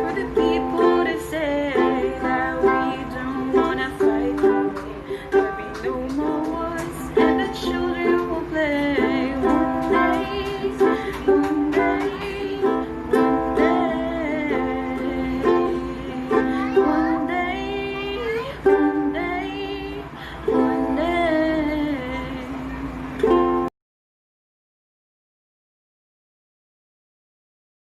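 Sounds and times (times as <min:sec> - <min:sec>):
person singing: 0:00.0 - 0:23.7
ukulele strumming chords: 0:00.0 - 0:23.7.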